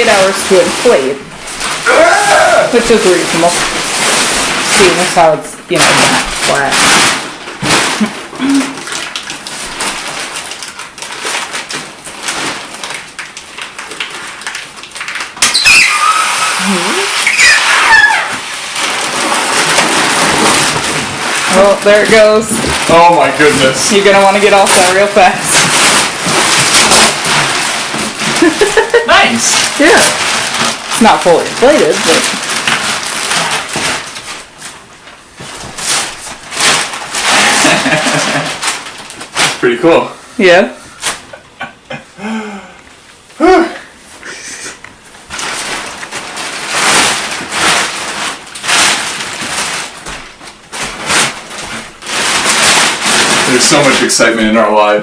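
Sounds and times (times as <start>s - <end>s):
plastic packaging crinkling: 0.0s - 41.6s, 44.8s - 55.0s.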